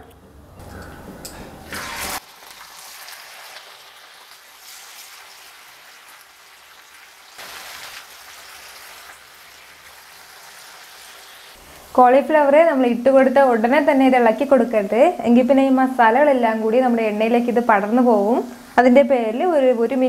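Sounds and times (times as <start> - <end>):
food deep-frying in oil: 1.7 - 20.0.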